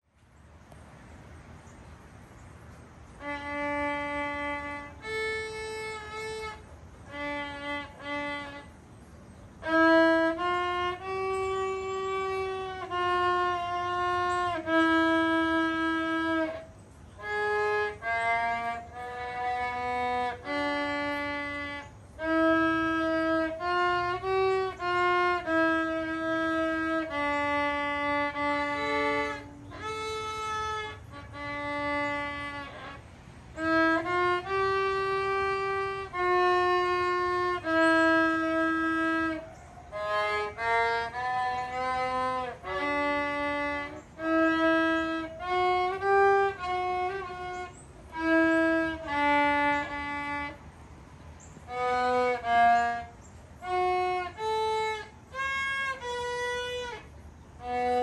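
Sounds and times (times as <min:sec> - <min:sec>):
solo violin melody: 0:02.7 - 0:58.0.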